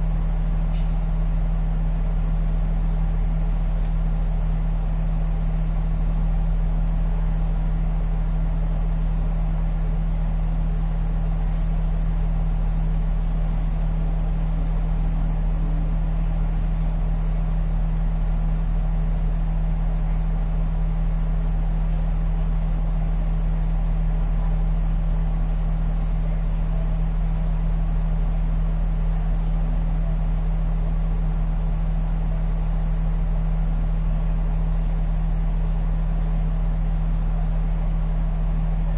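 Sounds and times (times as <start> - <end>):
bus engine idling: 0.0 - 38.9.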